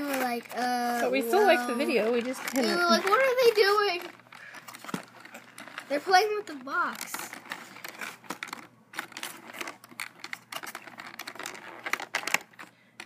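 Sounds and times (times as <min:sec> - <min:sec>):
toy packaging clicks and crinkles: 0:00.0 - 0:13.0.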